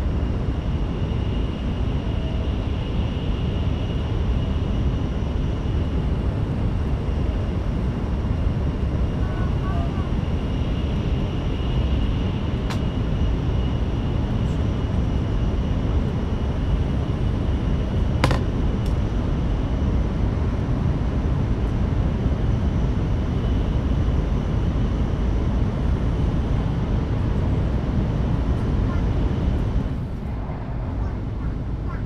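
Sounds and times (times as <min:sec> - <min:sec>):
train running rumble: 0:00.0 - 0:32.0.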